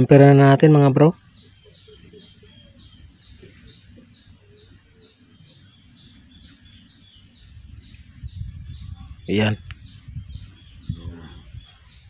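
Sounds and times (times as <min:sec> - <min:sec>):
bird chirping faintly: 0:00.0 - 0:12.0.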